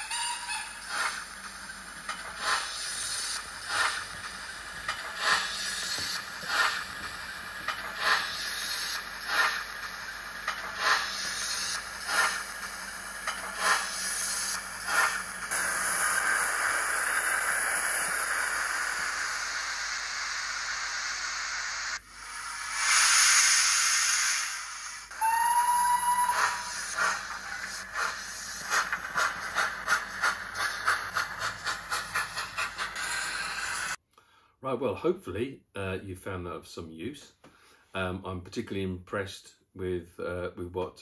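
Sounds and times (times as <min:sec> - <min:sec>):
steam hissing: 0:00.0 - 0:34.0
steam locomotive chuffs: 0:00.0 - 0:34.0.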